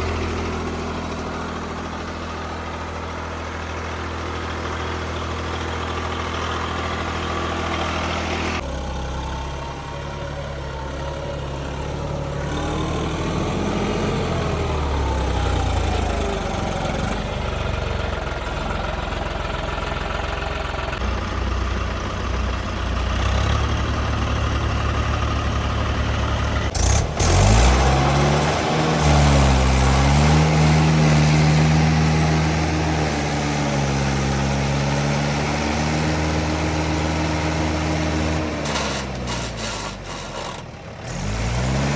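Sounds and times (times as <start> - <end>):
tractor engines revving: 0.0 - 41.9.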